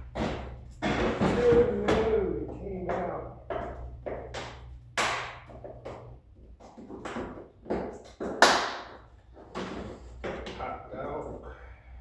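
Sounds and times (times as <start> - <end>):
car parts knocking and clattering: 0.0 - 11.6.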